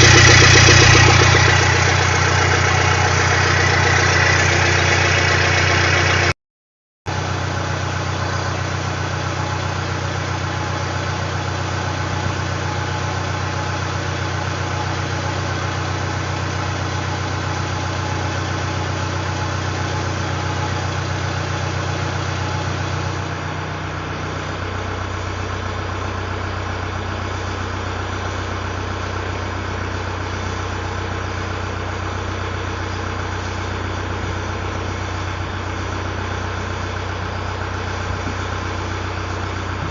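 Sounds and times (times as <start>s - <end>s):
truck engine idling: 0.0s - 6.4s, 7.1s - 39.9s.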